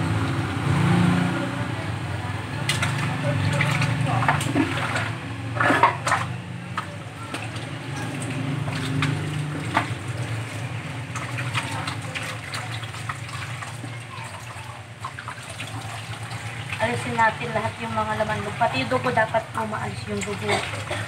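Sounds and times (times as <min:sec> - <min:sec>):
water splashing in a sink: 0:02.6 - 0:21.0.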